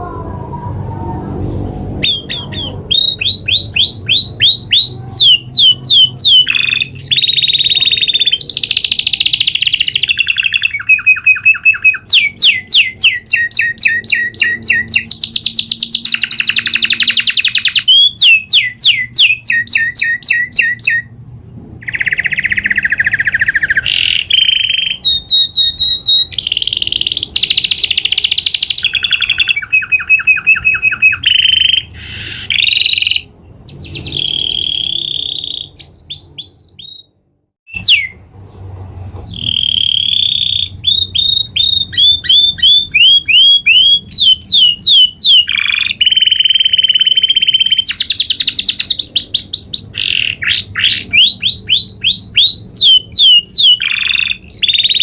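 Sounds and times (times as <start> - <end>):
canary singing trills: 1.4 - 21.2, 21.8 - 37.1, 37.7 - 38.2, 39.3 - 55.0.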